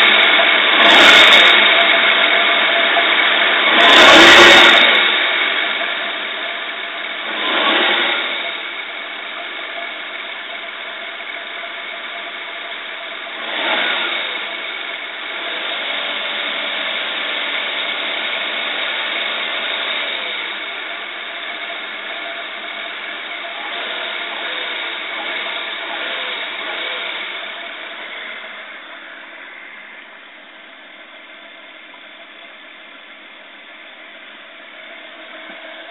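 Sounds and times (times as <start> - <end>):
engine rough idle: 0.0 - 35.9
engine throttle blips: 0.0 - 35.9.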